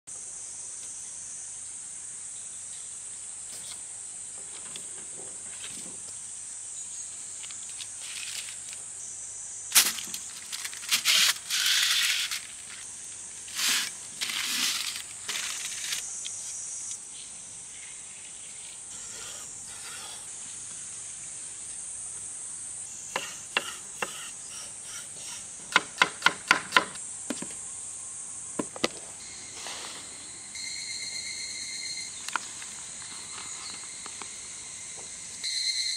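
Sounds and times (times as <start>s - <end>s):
high-pitched insect chorus: 0.1s - 35.9s.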